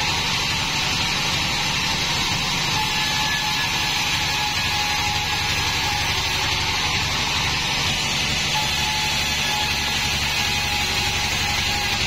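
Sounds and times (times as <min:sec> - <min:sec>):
bandsaw running: 0:00.0 - 0:12.0.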